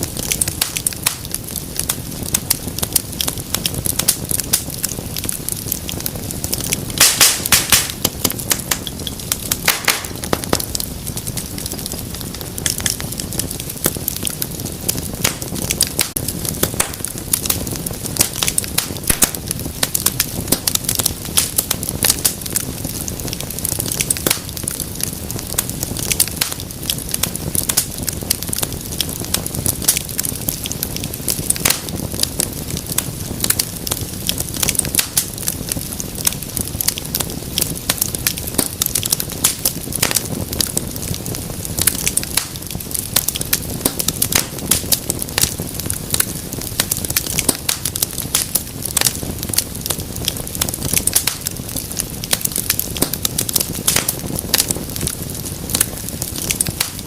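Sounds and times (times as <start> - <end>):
low rush of flame: 0.0 - 57.0
wood fire crackling: 0.0 - 57.0.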